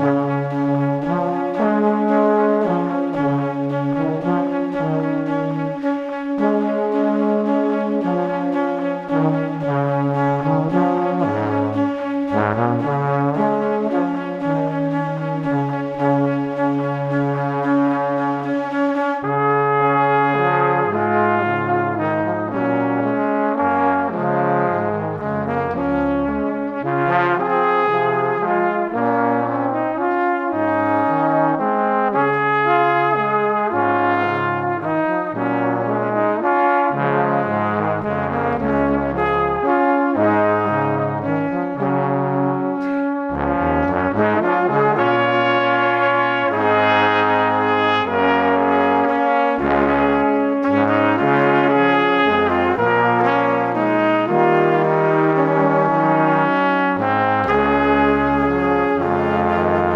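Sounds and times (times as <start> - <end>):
brass melody over bass line: 0.0 - 59.9.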